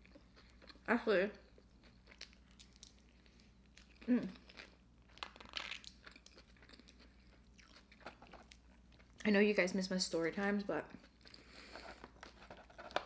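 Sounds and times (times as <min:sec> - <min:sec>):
chewing fries crunching: 0:00.0 - 0:09.3, 0:10.9 - 0:13.0.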